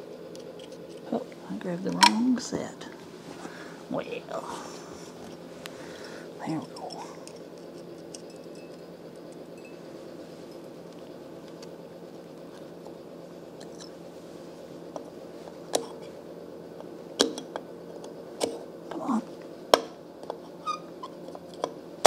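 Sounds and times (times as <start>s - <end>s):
heater fan humming: 0.0s - 22.0s.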